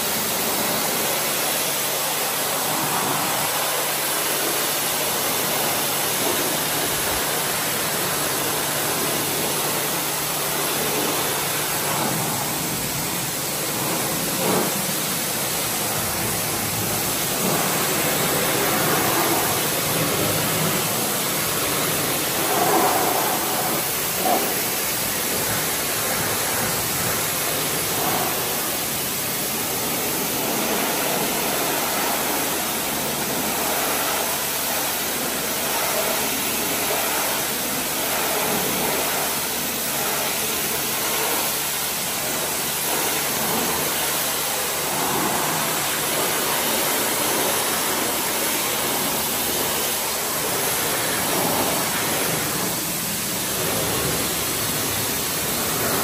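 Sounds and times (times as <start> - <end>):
pressure washer spraying: 0.0 - 56.0.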